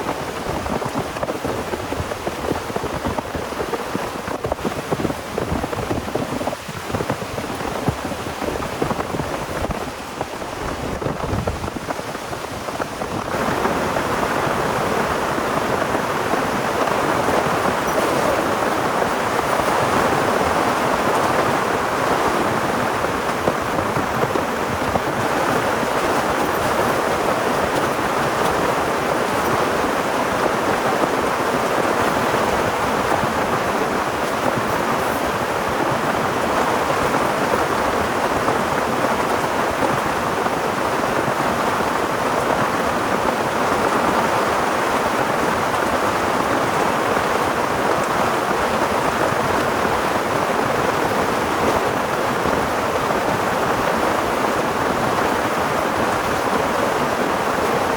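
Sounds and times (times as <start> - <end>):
heavy rain pouring: 0.0 - 57.9.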